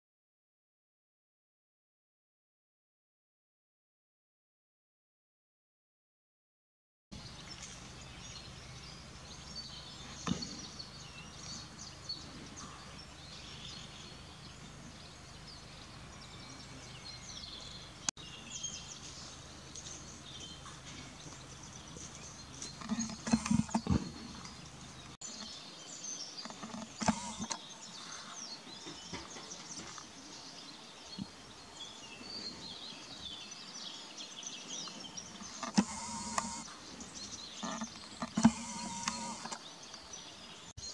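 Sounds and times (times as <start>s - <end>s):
songbirds chirping and singing: 7.2s - 40.9s.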